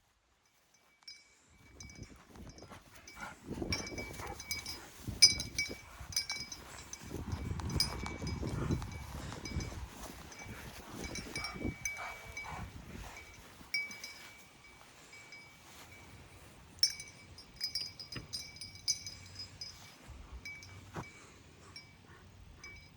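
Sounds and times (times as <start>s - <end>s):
dog collar tags jingling: 0.8s - 16.1s, 16.8s - 22.9s.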